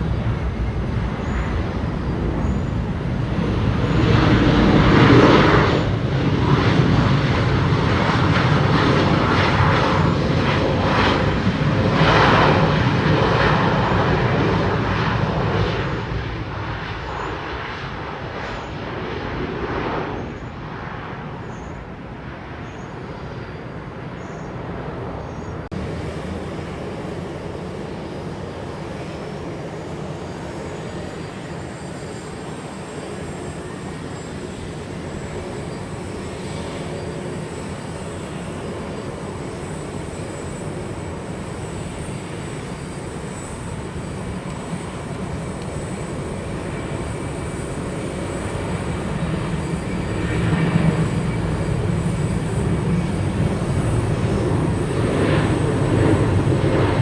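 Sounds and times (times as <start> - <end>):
high jet engine whine: 0.0 - 57.0
jet engines running: 0.0 - 57.0.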